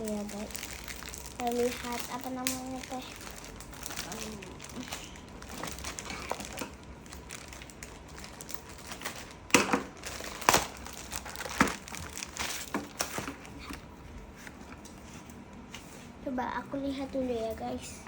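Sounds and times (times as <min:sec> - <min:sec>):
packaging crinkling: 0:00.0 - 0:14.5.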